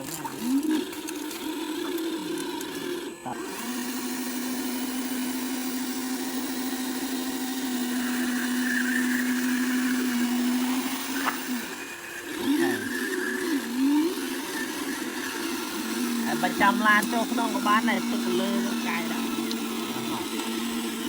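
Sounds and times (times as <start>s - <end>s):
small electric motor whining: 0.0s - 21.0s.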